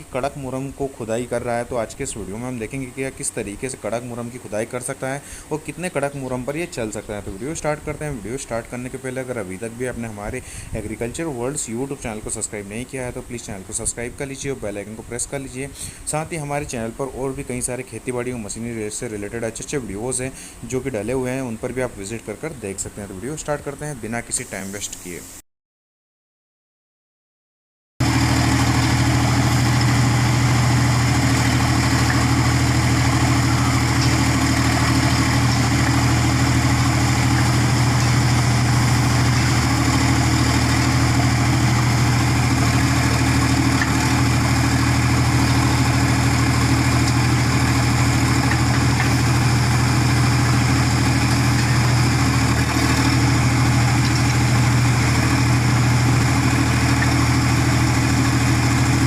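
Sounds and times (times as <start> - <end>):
tractor diesel engine running: 0.0 - 21.2, 28.0 - 59.0.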